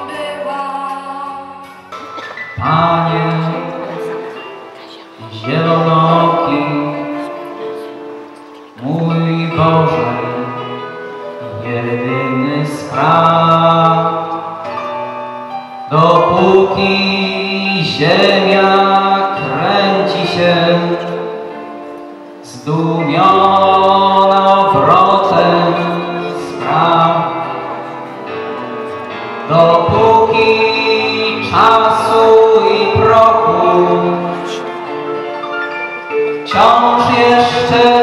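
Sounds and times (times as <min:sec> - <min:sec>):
instrumental backing music: 0:00.0 - 0:38.0
man singing into a microphone: 0:01.8 - 0:04.6, 0:05.2 - 0:14.8, 0:15.8 - 0:21.6, 0:22.4 - 0:28.2, 0:29.2 - 0:35.2, 0:36.3 - 0:38.0.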